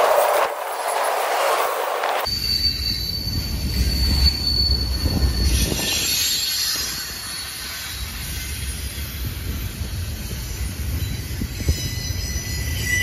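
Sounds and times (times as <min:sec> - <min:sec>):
high wheel squeal: 0:00.0 - 0:13.0
train rumble: 0:00.0 - 0:13.0.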